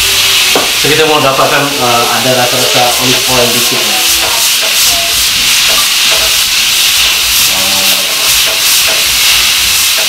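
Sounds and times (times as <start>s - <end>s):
steak sizzling on griddle: 0.0s - 10.0s.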